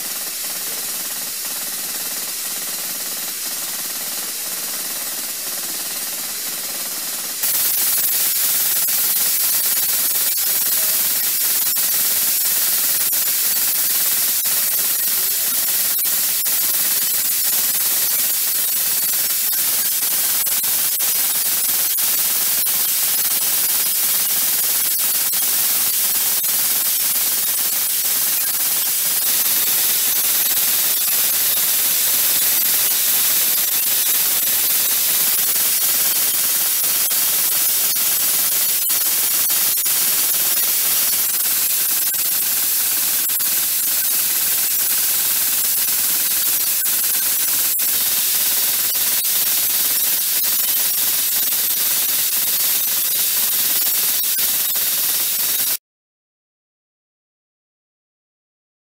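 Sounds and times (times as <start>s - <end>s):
machine high hiss: 0.0s - 55.8s.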